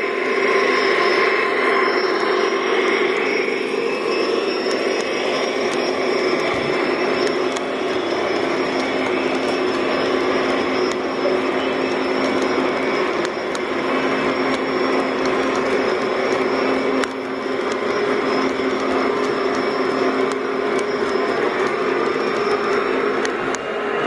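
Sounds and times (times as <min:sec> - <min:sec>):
model train wheels rumbling: 0:00.3 - 0:23.9
sharp track clicks: 0:02.1 - 0:23.7.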